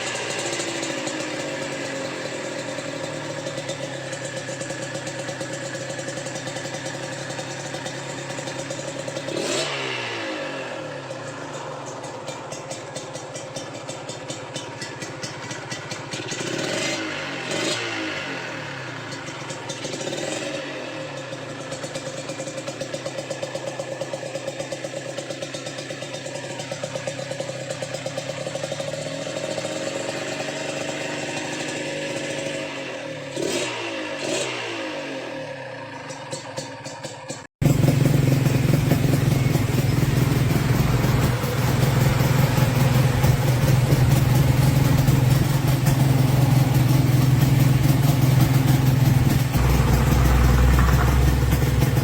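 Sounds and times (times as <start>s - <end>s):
two-stroke engine idling and revving: 0.0s - 52.0s.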